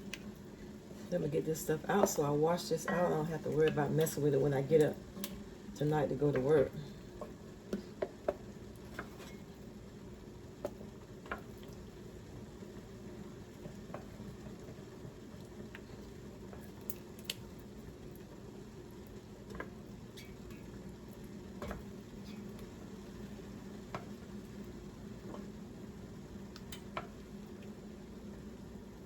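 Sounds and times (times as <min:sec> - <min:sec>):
low stove hum: 0:00.0 - 0:29.0
pots bubbling: 0:00.0 - 0:29.0.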